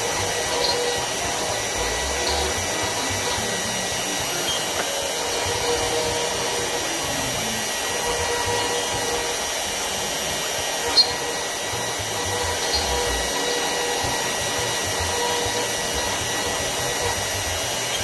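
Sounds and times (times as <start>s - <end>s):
bit engraving wood: 0.0s - 18.0s
router spindle whining: 0.0s - 18.0s.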